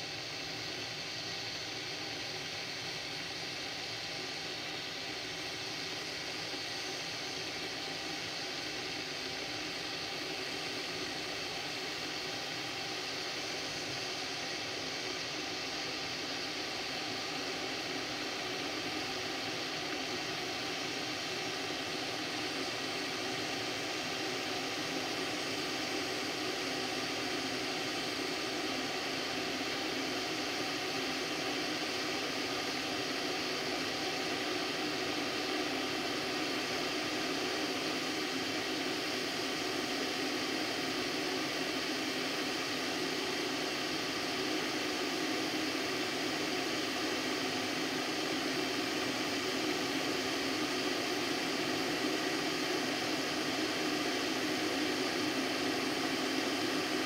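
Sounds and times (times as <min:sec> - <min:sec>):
electric kettle heating water: 0:00.0 - 0:57.0.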